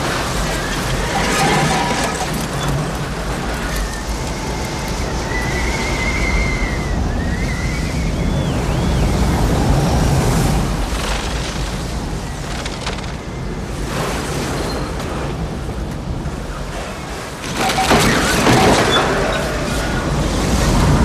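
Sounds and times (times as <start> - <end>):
tornado wind roar: 0.0 - 21.0.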